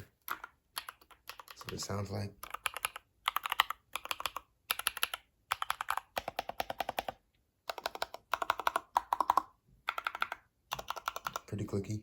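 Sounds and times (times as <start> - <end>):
clicky mechanical keyboard typing: 0.2 - 11.5.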